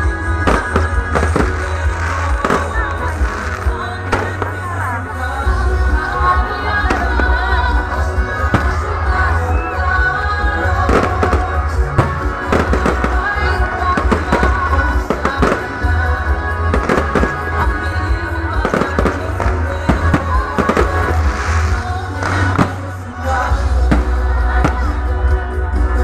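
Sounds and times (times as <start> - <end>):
fireworks bangs and crackles: 0.0 - 9.7, 10.4 - 25.2
loud music with heavy bass: 0.0 - 26.0.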